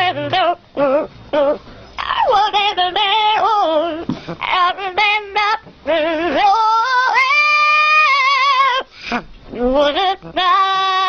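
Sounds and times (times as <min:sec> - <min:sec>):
parrot singing: 0:00.0 - 0:08.9, 0:09.5 - 0:11.0.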